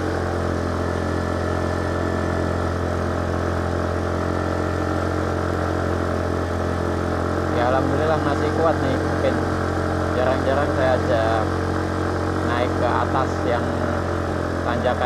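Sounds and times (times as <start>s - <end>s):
motorcycle engine drone: 0.0s - 15.0s.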